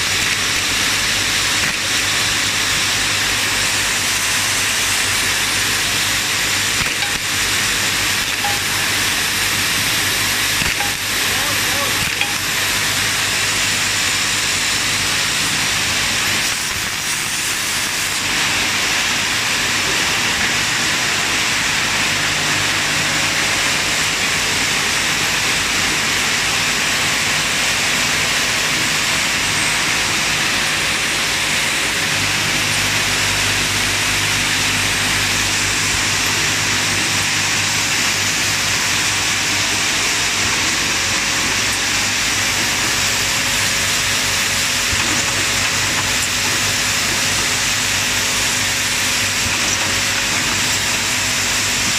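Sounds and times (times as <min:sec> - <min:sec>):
low machine hum: 0:00.0 - 0:51.9
machine hiss: 0:00.0 - 0:51.9.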